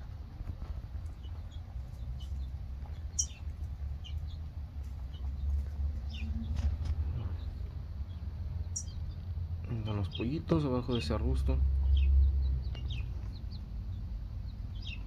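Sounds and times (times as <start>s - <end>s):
steady low rumble: 0.0s - 15.0s
bird chirps: 1.2s - 4.4s, 5.0s - 15.0s.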